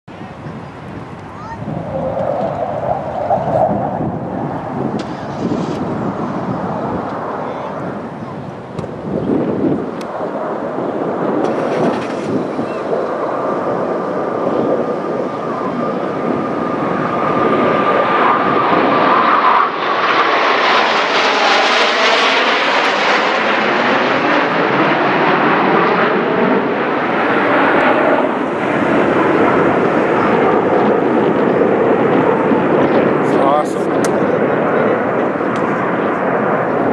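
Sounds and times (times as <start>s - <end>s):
high jet whine: 0.1s - 36.9s
jet roar overhead: 0.1s - 36.9s.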